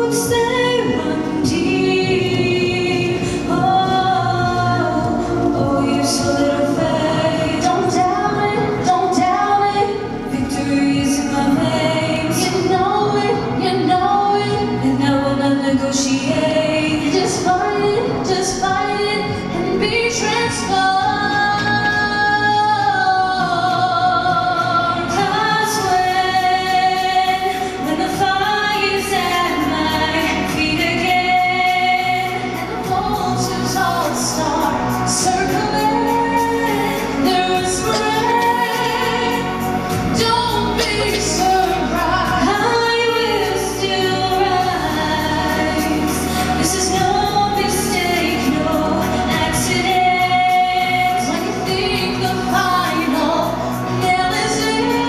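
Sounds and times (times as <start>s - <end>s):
two women singing a duet: 0.0s - 55.0s.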